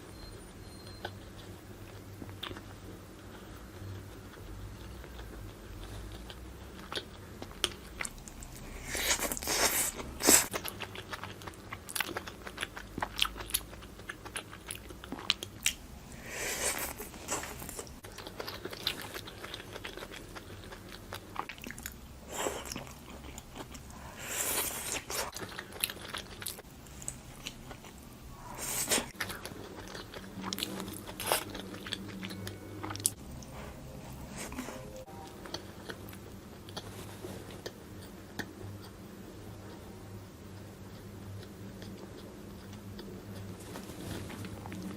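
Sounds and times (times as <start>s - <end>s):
crunchy chewing of food: 1.0s - 44.9s.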